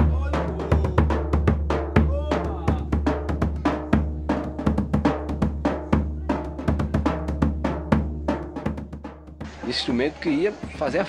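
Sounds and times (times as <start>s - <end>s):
deep drum boom: 0.0s - 9.6s
drums playing fast rhythm: 0.0s - 11.0s.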